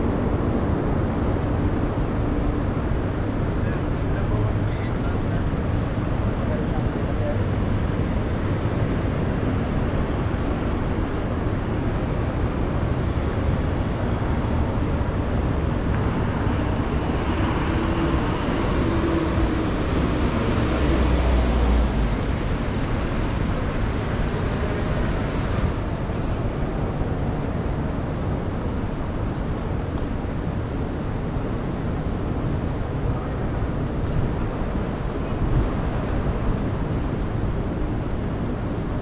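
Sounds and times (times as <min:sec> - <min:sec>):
street traffic noise: 0:00.0 - 0:39.0.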